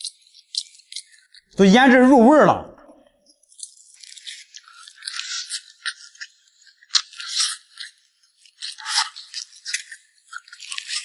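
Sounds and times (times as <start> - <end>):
person crunching and chewing: 0.0 - 1.6, 3.2 - 11.0.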